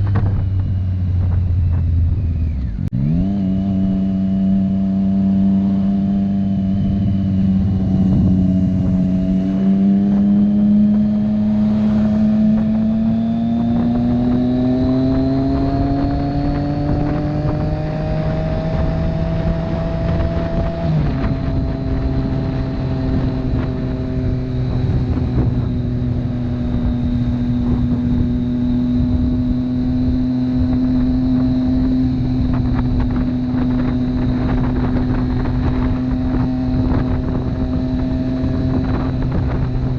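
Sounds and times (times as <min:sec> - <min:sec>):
motorcycle engine under way: 0:00.0 - 0:39.9
road and wind noise: 0:00.0 - 0:39.9.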